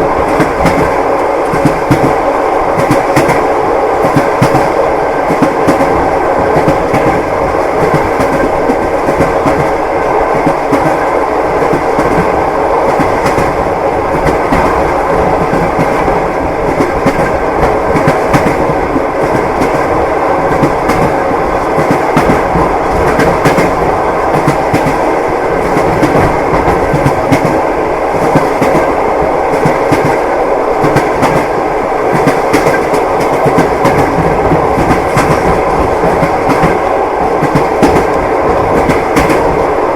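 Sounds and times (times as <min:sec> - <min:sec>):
rumble of moving carriage: 0:00.0 - 0:39.7
train wheels clattering over rails: 0:00.0 - 0:39.8.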